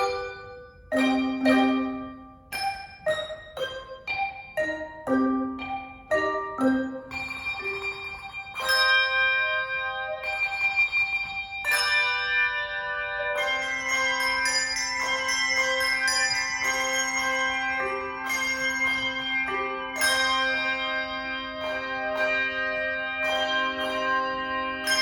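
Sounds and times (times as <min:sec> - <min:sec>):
handbell choir playing: 0:00.0 - 0:25.0
held low bell: 0:00.0 - 0:25.0.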